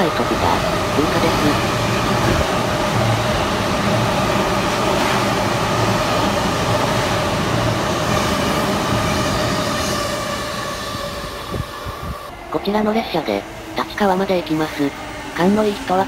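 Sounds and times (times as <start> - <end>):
train wheels rushing on rails: 0.0 - 16.0
train whine: 0.0 - 16.0.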